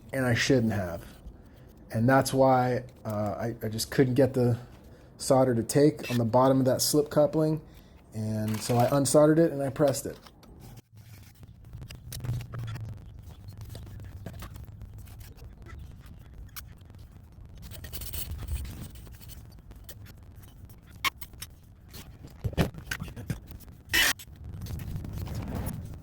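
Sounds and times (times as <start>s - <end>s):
scraping and rubbing handling noises: 0.1s - 26.0s.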